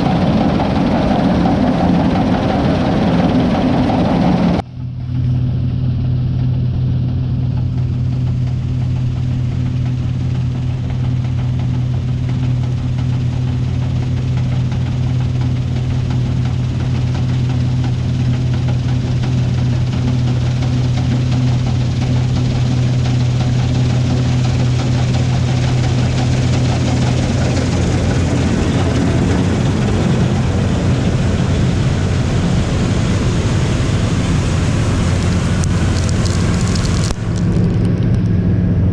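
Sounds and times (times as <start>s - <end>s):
broad rushing noise: 0.0s - 4.6s, 9.0s - 38.9s
diesel engine running: 0.0s - 38.9s.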